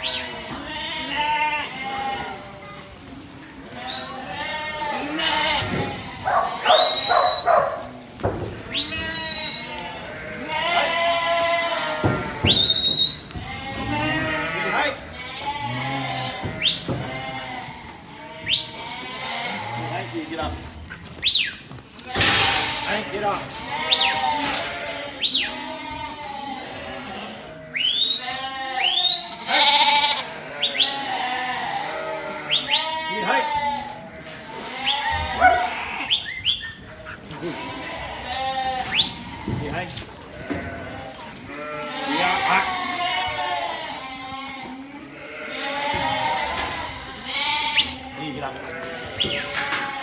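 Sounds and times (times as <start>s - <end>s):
sheep bleating: 0.0s - 50.0s.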